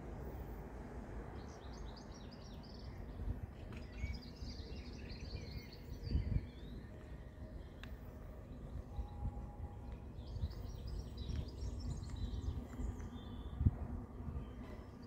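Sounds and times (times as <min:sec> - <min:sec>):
steady low rumble: 0:00.0 - 0:15.0
small birds chirping: 0:01.3 - 0:13.7.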